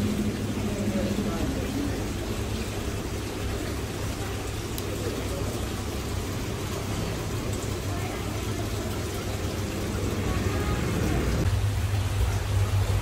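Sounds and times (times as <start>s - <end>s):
aquarium equipment hum: 0.0s - 13.0s
water-like wash: 0.0s - 13.0s.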